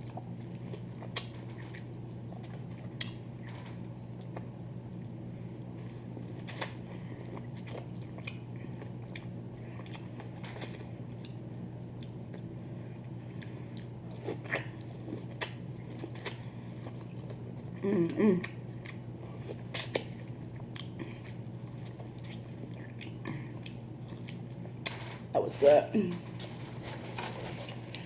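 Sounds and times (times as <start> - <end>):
crunching and chewing: 0.0 - 17.8, 18.4 - 25.0, 26.2 - 28.0
steady low hum: 0.0 - 28.0.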